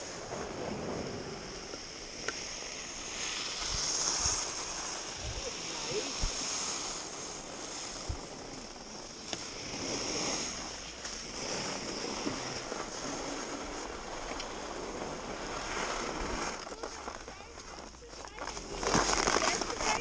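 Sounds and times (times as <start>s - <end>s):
skis hissing over snow: 0.0s - 20.0s.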